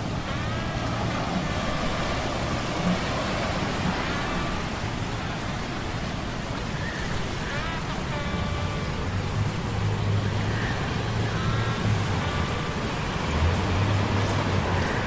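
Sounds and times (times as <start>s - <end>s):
sea storm rushing: 0.0s - 15.0s.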